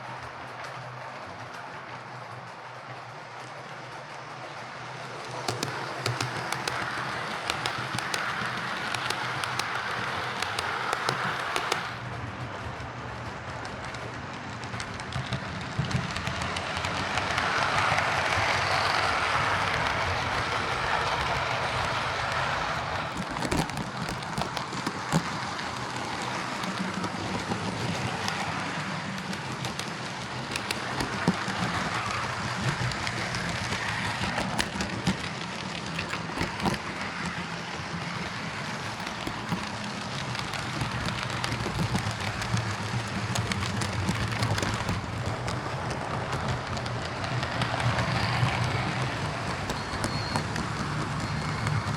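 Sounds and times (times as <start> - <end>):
wheels clicking over rail joints: 0.0 - 51.9
model train motor whirring: 1.5 - 51.9.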